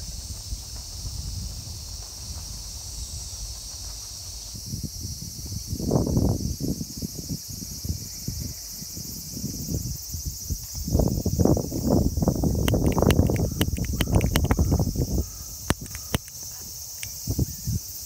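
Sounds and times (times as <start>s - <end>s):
insects chirring: 0.0s - 18.0s
wind rumble on microphone: 0.0s - 18.0s.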